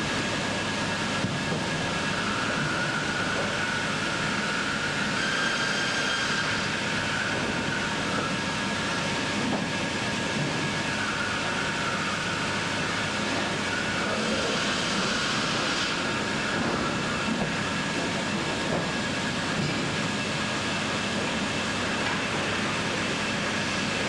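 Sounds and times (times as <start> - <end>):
sawmill machinery running: 0.0 - 24.0.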